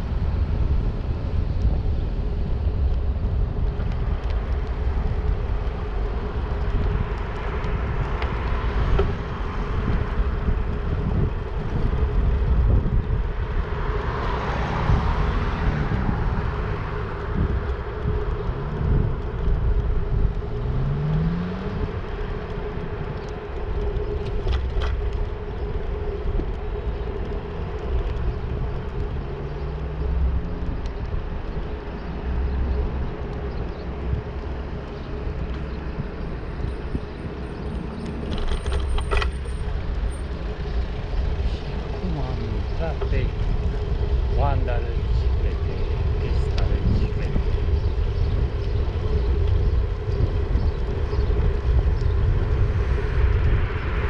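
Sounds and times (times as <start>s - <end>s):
cars passing: 0.0s - 54.0s
wind rumbling on microphone: 0.0s - 54.0s.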